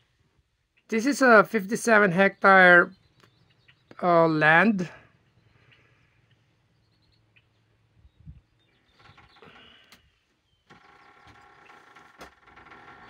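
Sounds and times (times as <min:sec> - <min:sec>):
distant bird calls: 0:01.8 - 0:04.0, 0:04.8 - 0:13.0.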